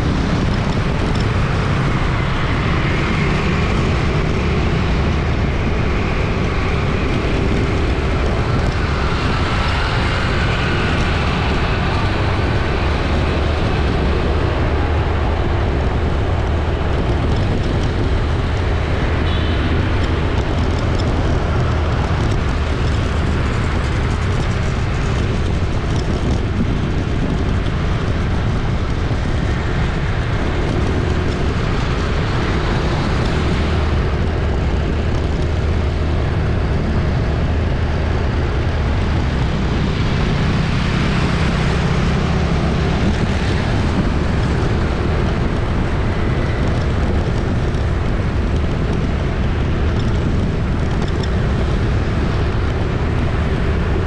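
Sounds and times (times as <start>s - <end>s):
busy street traffic: 0.0s - 54.0s.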